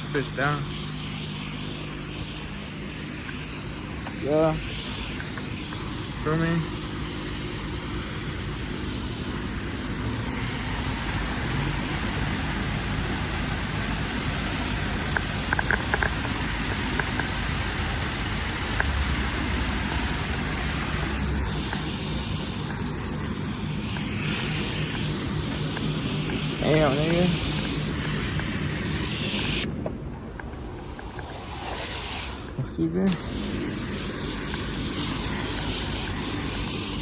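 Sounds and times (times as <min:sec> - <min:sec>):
pressure washer spraying water: 0:00.0 - 0:37.0.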